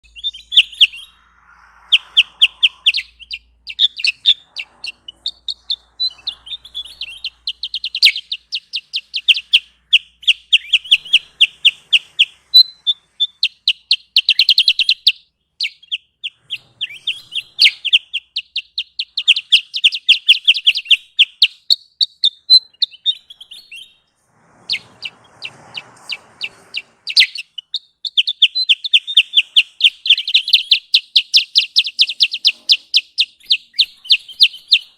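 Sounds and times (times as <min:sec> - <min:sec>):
bird chirping sharply: 0:00.0 - 0:34.9.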